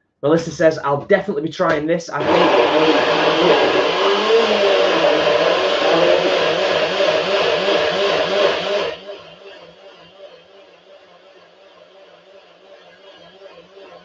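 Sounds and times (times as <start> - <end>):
electric blender running: 2.2 - 14.0.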